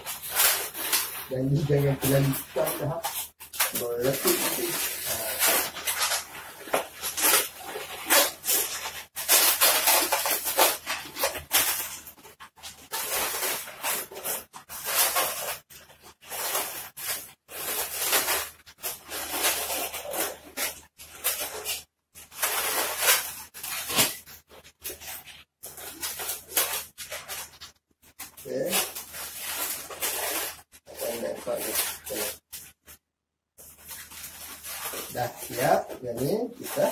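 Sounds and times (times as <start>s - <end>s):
rubber balloons rubbing: 0.0s - 33.0s, 33.6s - 36.9s.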